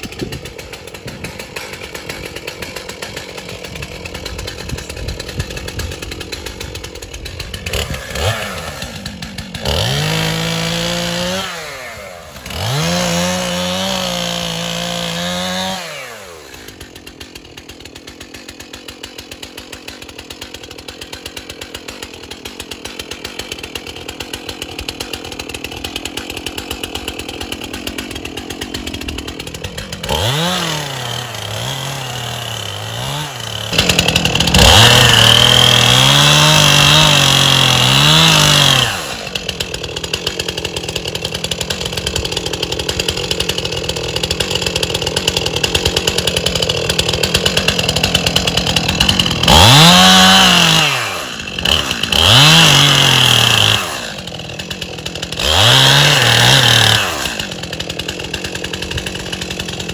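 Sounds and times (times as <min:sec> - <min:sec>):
chainsaw cutting brush: 0:00.0 - 0:59.9
chainsaw idling and revving: 0:00.0 - 0:59.9.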